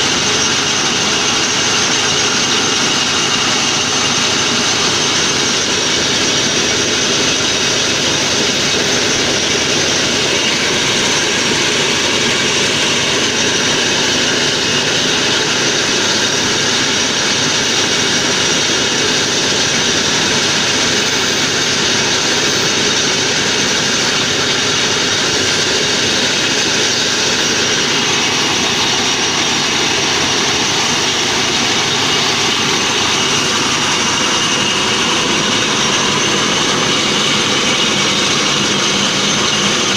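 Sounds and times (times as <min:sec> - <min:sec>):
motorised corn sheller running: 0:00.0 - 0:39.9.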